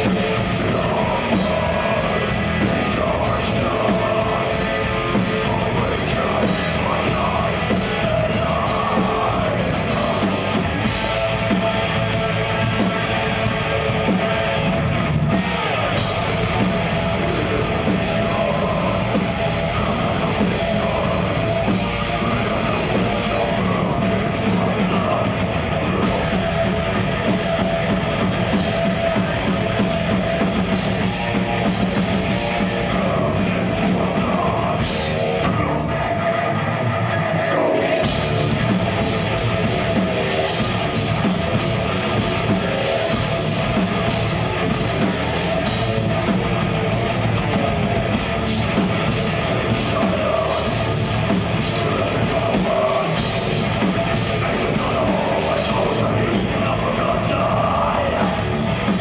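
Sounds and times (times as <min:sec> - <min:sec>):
distorted electric guitars: 0:00.0 - 0:59.0
drum kit: 0:00.0 - 0:59.0.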